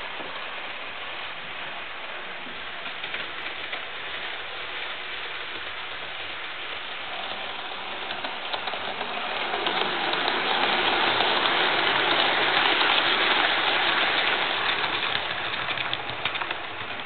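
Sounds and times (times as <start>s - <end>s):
model train whirring on track: 0.0s - 17.0s.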